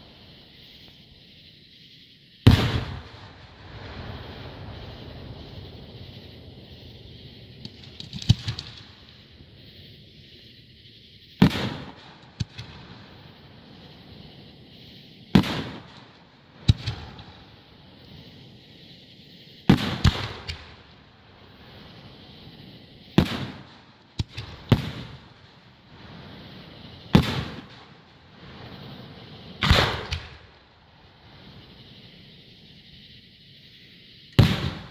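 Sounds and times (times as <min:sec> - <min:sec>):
firework bangs: 0:02.3 - 0:34.9.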